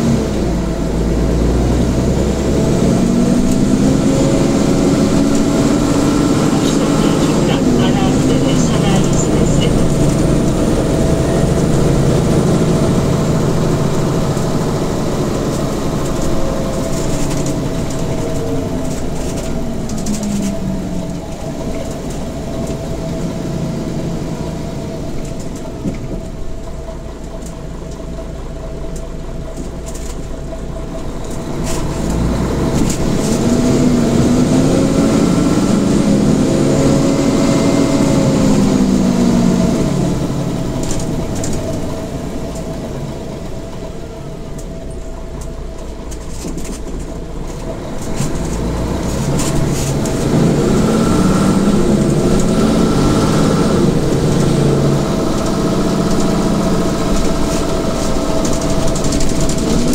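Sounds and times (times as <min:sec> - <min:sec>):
bus diesel engine: 0:00.0 - 0:59.9.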